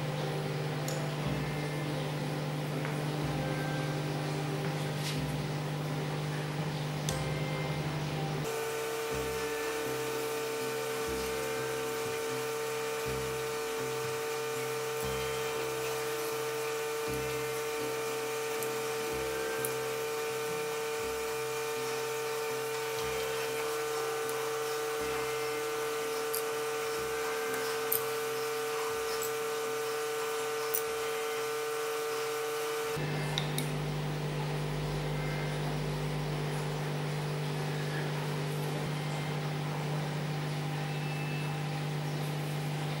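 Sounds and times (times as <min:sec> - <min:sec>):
droning hum of held tones: 0:00.0 - 0:43.0.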